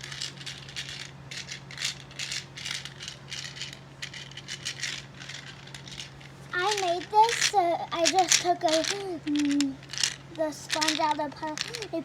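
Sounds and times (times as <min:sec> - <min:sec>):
plastic ball rattling: 0:00.0 - 0:12.0.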